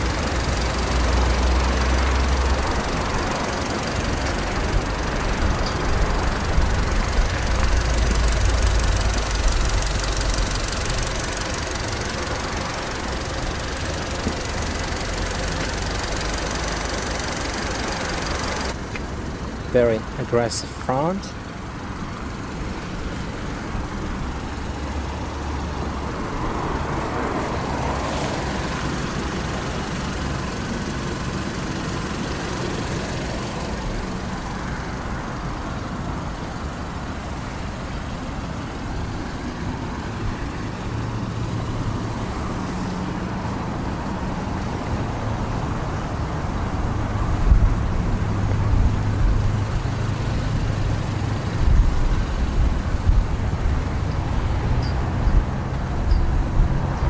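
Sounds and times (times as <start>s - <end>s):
car engine idling: 0.0s - 57.0s
traffic noise: 0.0s - 57.0s.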